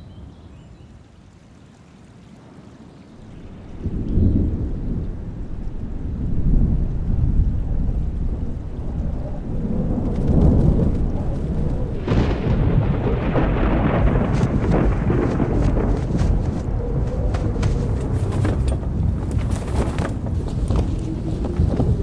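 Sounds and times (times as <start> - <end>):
rain: 0.0 - 22.0
wind: 0.0 - 22.0
rolling thunder: 3.2 - 22.0.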